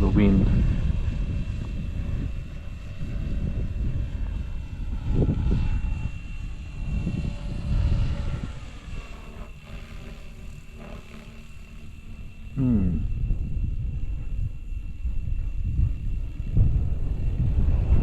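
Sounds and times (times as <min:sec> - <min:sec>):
helicopter motor whine: 0:00.0 - 0:18.0
wind rumble on microphone: 0:00.0 - 0:18.0.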